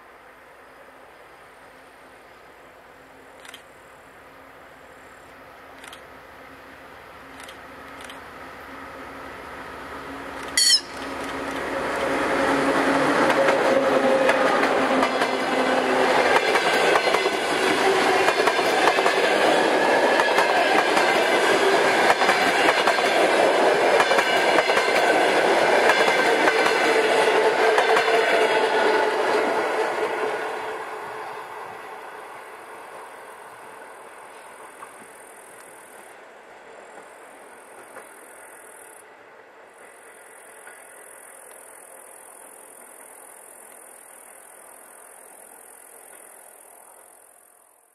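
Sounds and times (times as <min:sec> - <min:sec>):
diesel locomotive engine: 0:00.0 - 0:47.9
train wheels on rails: 0:04.8 - 0:47.6.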